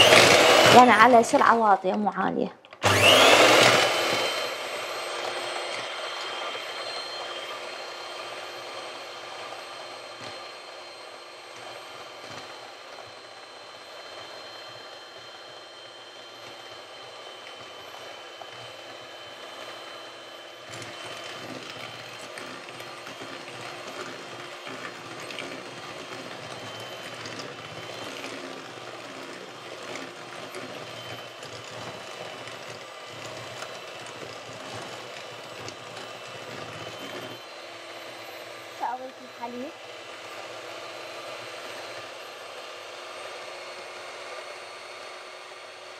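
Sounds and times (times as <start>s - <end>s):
electric hand mixer whisking batter: 0.0s - 45.9s.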